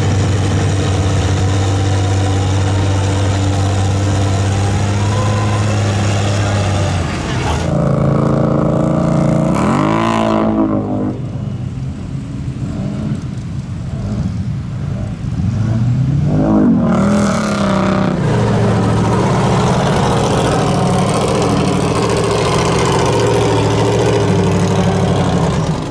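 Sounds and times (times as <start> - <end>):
truck engine revving: 0.0 - 11.4, 12.5 - 25.9.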